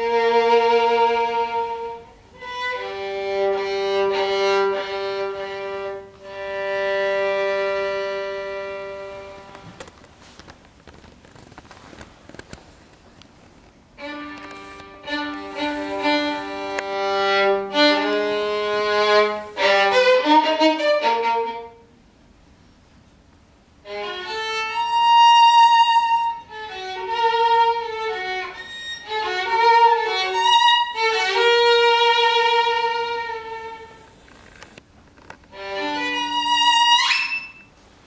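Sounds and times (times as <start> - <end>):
solo violin slow piece: 0.0 - 9.8, 14.0 - 21.9, 23.8 - 34.8, 35.5 - 37.7.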